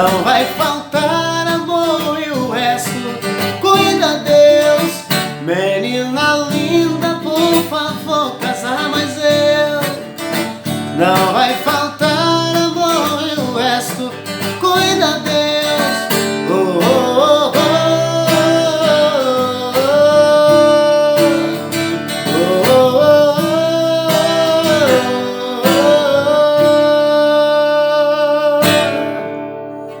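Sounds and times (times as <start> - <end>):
person singing: 0.0 - 30.0
strummed acoustic guitar: 0.0 - 30.0.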